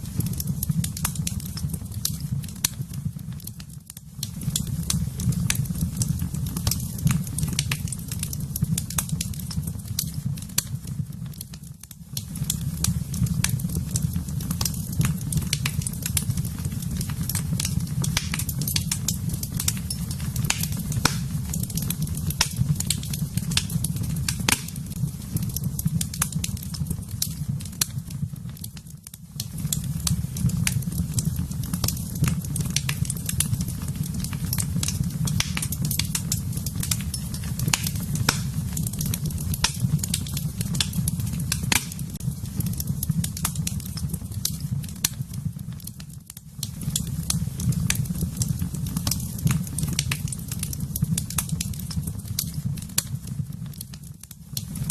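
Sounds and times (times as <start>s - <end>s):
sharp pops of fire: 0.0s - 54.9s
wood fire crackling: 0.0s - 54.9s.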